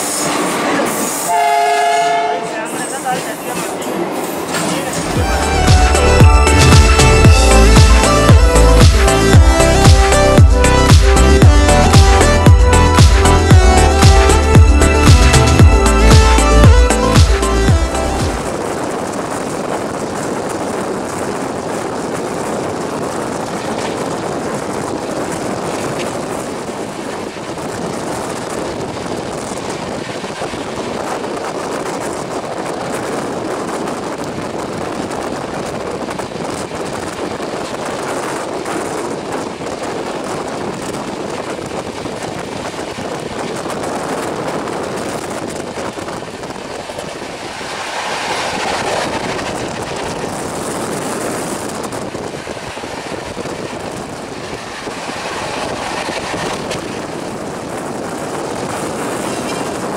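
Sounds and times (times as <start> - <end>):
train wheel and track noise: 0.0 - 59.9
wind on microphone: 4.0 - 59.9.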